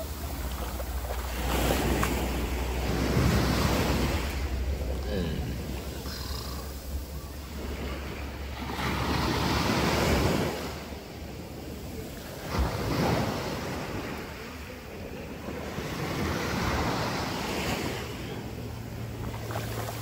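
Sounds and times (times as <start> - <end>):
sea waves washing up beach: 0.0 - 20.0.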